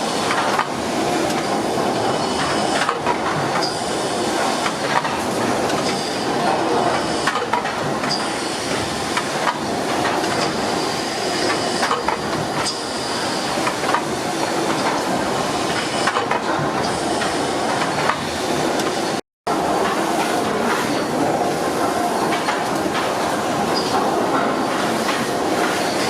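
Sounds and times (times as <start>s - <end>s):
steam engine clatter: 0.0s - 26.0s
steam hissing: 0.0s - 26.0s.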